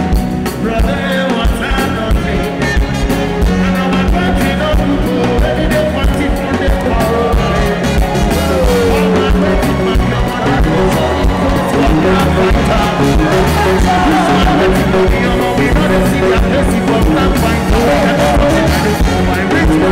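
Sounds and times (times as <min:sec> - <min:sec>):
upbeat music with drum beat: 0:00.0 - 0:19.9
person singing: 0:00.5 - 0:19.9.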